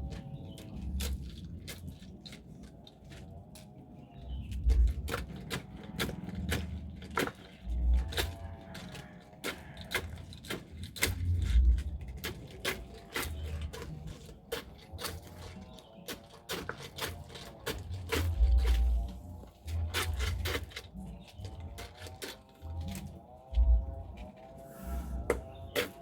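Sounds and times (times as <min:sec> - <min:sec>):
creaking mechanism: 0:04.5 - 0:26.0.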